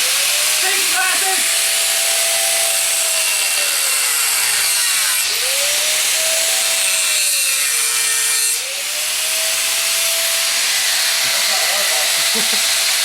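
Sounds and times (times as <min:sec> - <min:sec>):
power tool cutting wood: 0:00.0 - 0:13.0.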